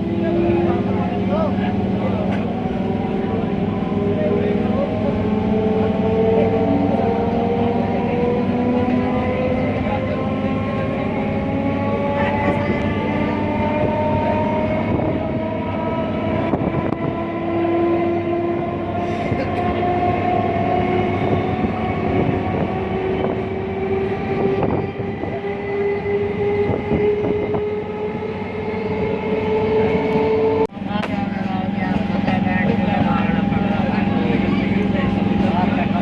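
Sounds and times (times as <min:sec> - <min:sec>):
train drive whine: 0:00.0 - 0:36.0.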